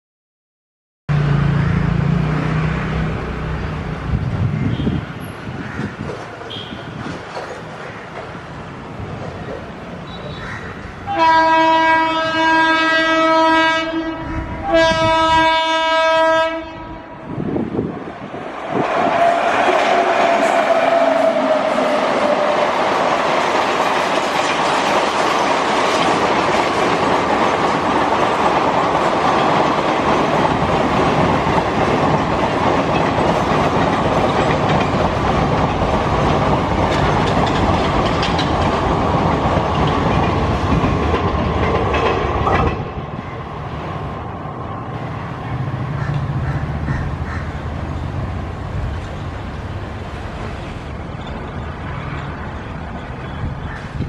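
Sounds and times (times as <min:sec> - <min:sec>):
train wheels rushing on rails: 0:01.2 - 0:54.0.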